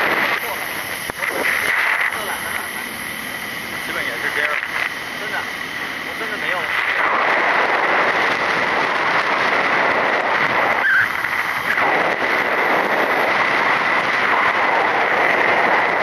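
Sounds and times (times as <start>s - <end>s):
motorcycle engine: 0.0s - 16.0s
wind rushing: 0.0s - 16.0s.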